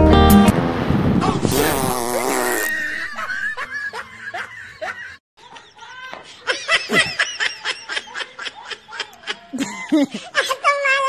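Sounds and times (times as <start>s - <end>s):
person laughing: 1.3s - 10.9s.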